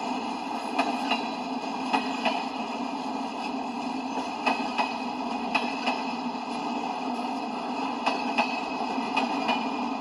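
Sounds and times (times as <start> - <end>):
steel wheels rumbling on rail: 0.0 - 10.0
wheels clicking over rail joint: 0.0 - 10.0.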